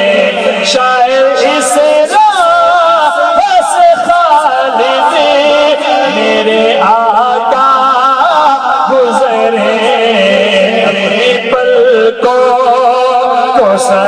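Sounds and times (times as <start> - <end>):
man singing ornamented lines: 0.0 - 14.0.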